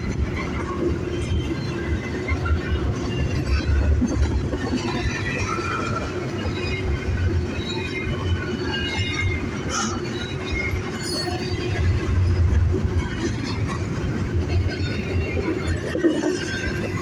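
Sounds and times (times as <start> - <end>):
freight train rumbling on rails: 0.0 - 17.0
train wheel squeal: 0.0 - 17.0.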